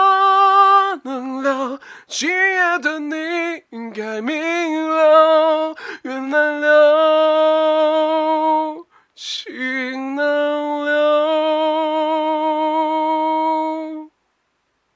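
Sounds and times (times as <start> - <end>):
man singing unaccompanied: 0.0 - 14.1.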